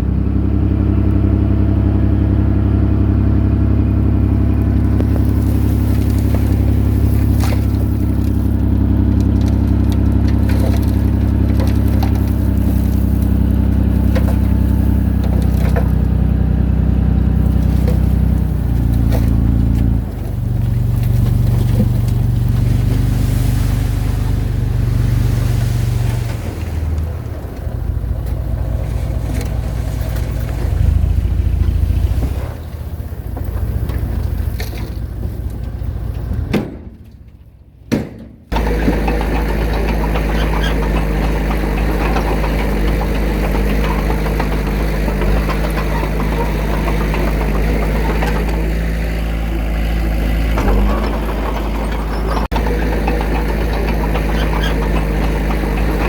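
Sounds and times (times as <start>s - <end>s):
heavy machinery diesel engine droning: 0.0s - 56.0s.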